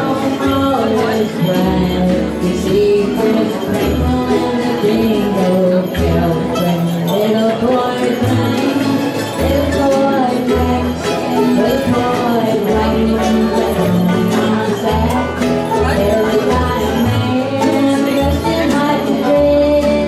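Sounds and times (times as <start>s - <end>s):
acoustic guitars: 0.0s - 20.0s
banjo: 0.0s - 20.0s
upright bass plucked: 0.0s - 20.0s.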